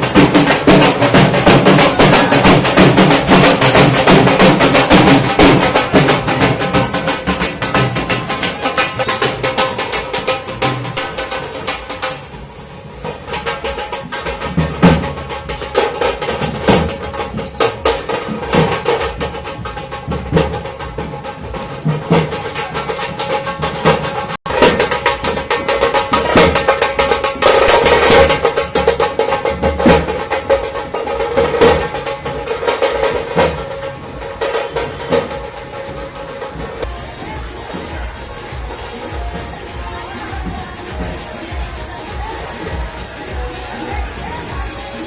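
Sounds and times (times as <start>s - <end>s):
music with steady drums: 0.0s - 45.0s.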